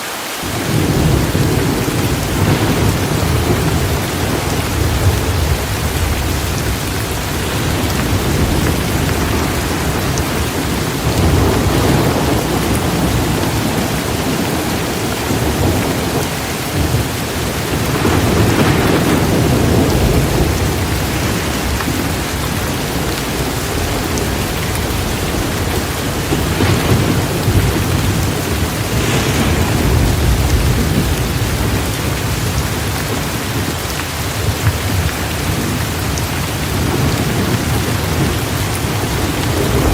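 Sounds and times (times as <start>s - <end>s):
heavy rain pouring: 0.0s - 39.9s
thunder rumbling: 0.4s - 39.9s.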